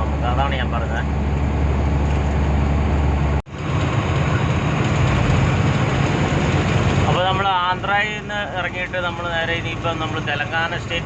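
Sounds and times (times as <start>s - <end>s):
truck diesel engine driving: 0.0s - 11.0s.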